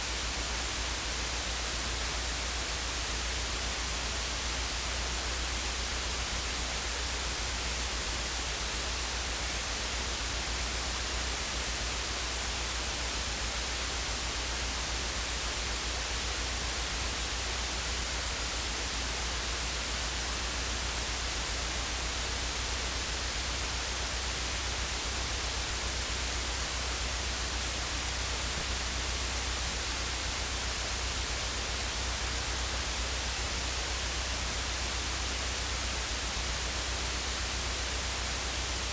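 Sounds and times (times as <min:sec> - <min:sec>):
low electrical hum: 0:00.0 - 0:38.9
static hiss: 0:00.0 - 0:38.9.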